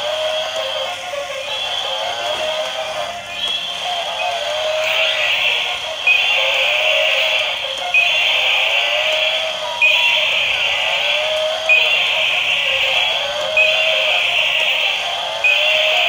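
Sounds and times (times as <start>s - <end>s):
toy electronic sound effects: 0.0s - 16.0s.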